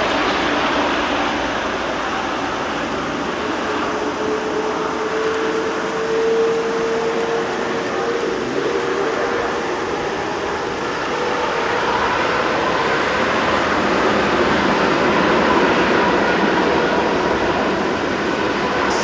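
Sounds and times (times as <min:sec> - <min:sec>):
jet engine roar: 0:00.0 - 0:19.0.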